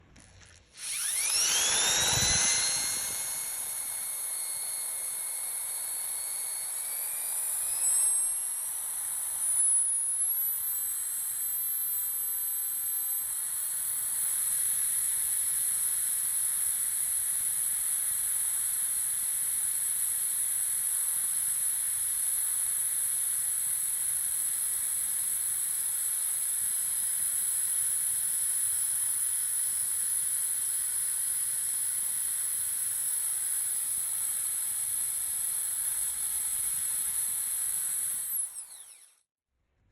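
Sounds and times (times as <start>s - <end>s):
high-pitched drill motor whine: 0.0s - 39.3s.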